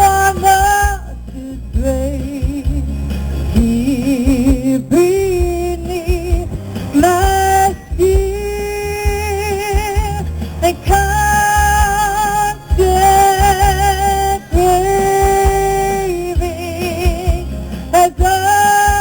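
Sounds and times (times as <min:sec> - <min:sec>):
backing music with bass: 0:00.0 - 0:19.0
woman singing with vibrato: 0:00.0 - 0:19.0.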